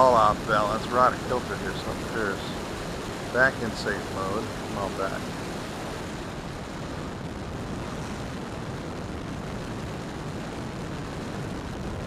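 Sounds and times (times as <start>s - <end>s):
propeller noise: 0.0s - 12.0s
rush of air: 0.0s - 12.0s.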